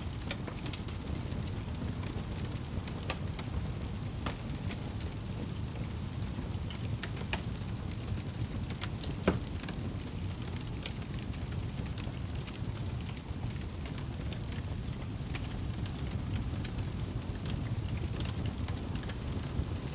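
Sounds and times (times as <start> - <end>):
fire popping: 0.0 - 19.9
wood fire crackling: 0.0 - 19.9.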